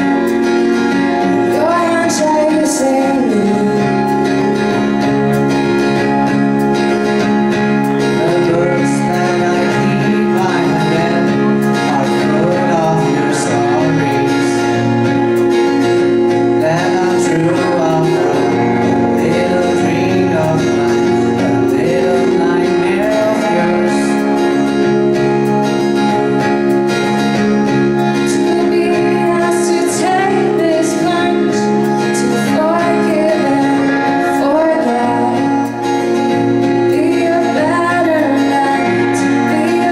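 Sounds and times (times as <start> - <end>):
person singing: 0.0 - 39.9
sustained guitar chords: 0.0 - 39.9.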